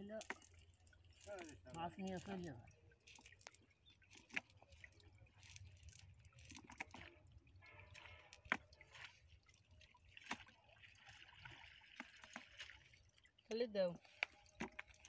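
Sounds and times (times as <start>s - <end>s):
faint water drips: 0.0s - 15.0s.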